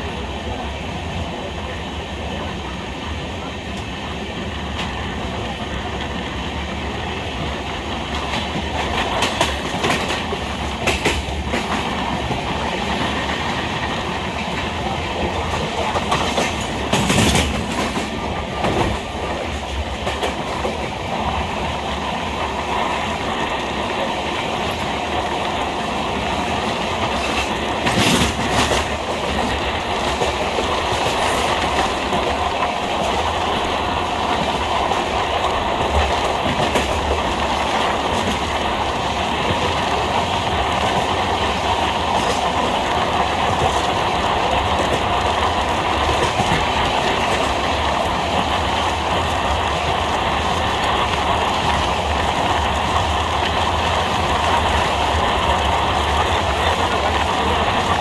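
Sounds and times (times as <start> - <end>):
train wheels clacking on rails: 0.0 - 58.0.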